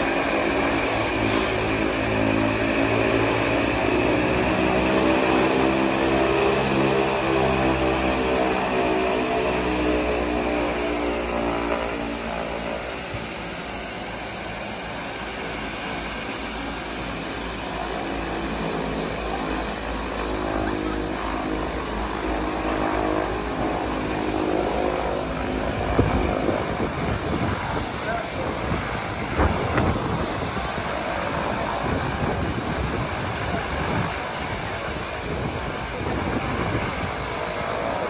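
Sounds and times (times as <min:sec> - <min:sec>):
propeller plane engine drone: 0:00.0 - 0:38.0.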